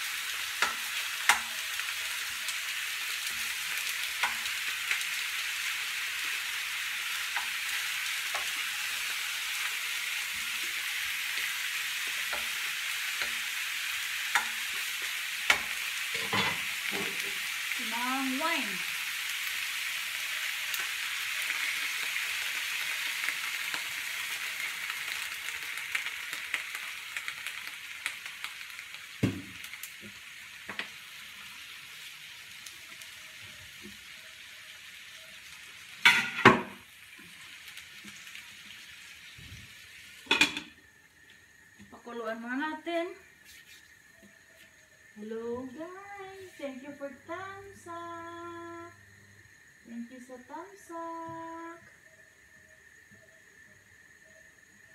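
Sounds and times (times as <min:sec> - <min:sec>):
ribs sizzling in a frying pan: 0:00.0 - 0:54.9.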